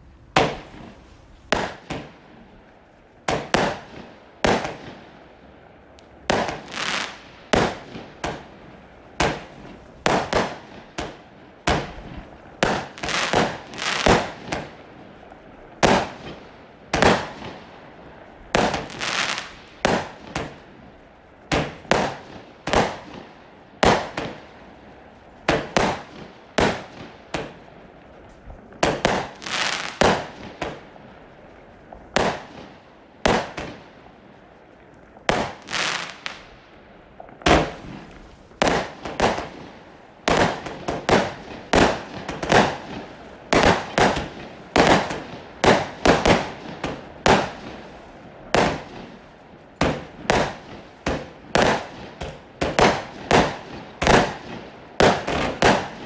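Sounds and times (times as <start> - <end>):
firework bangs: 0.2 - 2.4, 3.2 - 5.0, 6.1 - 14.9, 15.8 - 17.7, 18.5 - 20.7, 21.5 - 24.6, 25.4 - 27.8, 28.7 - 31.0, 32.1 - 34.0, 35.1 - 36.5, 37.3 - 56.0.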